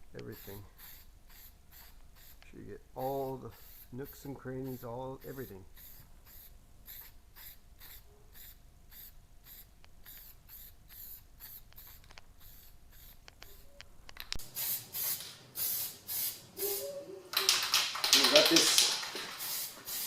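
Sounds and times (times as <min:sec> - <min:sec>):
aerosol can hissing: 0:00.3 - 0:02.5, 0:03.2 - 0:13.6, 0:14.4 - 0:16.8, 0:18.5 - 0:20.0.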